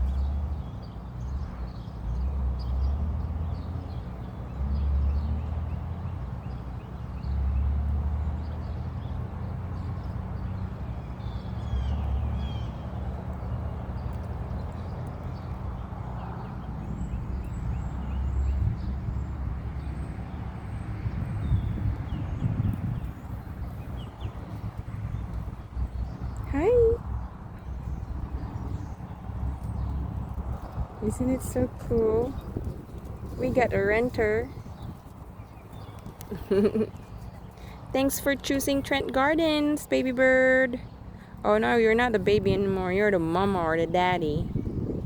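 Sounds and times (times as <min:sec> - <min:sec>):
small birds chirping: 0:00.0 - 0:45.0
wind gusting on microphone: 0:08.5 - 0:45.0.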